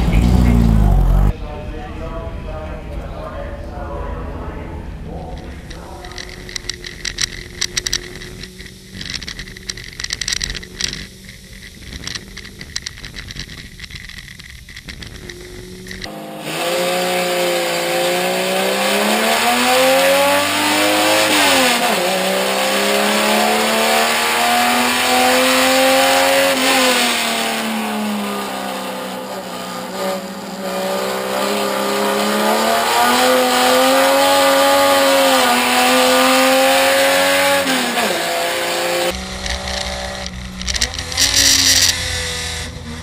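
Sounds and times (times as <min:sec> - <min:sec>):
race car engine revving: 0:00.0 - 0:13.7, 0:14.6 - 0:43.0.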